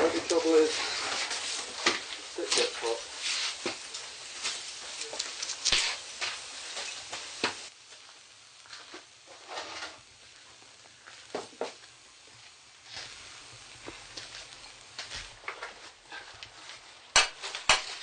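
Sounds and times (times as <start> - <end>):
hot charcoal crackling: 0.0 - 18.0.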